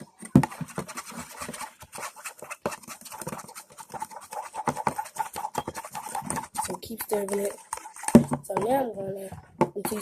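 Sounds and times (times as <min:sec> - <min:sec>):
stirring slime mixture: 0:00.0 - 0:10.0
utensil scraping container: 0:00.2 - 0:10.0.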